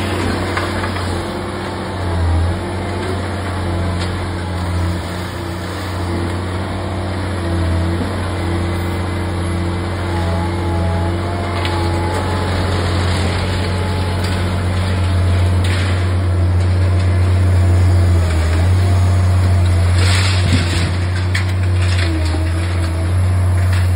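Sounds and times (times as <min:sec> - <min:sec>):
debris crunching and clanking: 0:00.0 - 0:06.6, 0:10.8 - 0:23.9
excavator engine and hydraulics: 0:00.0 - 0:23.9.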